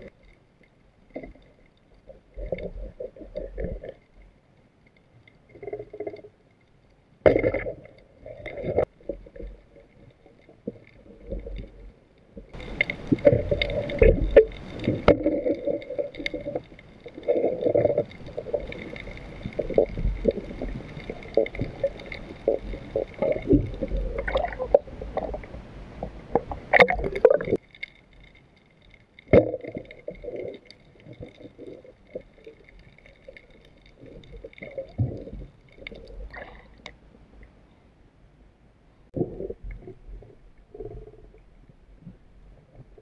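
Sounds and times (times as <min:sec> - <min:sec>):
water sloshing and gurgling: 0:00.0 - 0:37.7, 0:39.0 - 0:43.0.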